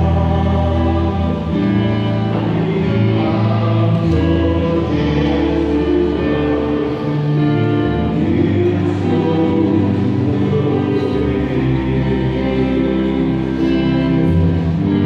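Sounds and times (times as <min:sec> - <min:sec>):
church choir singing a hymn: 0:00.0 - 0:15.0.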